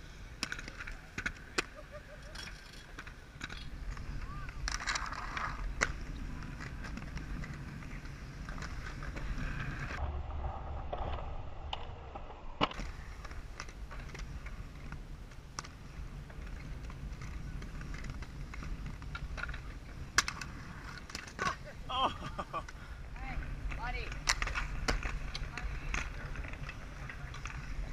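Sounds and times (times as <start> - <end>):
skate wheels rolling on concrete: 0.0 - 27.9
skates clacking on ledges: 0.4 - 10.0, 12.6 - 27.9.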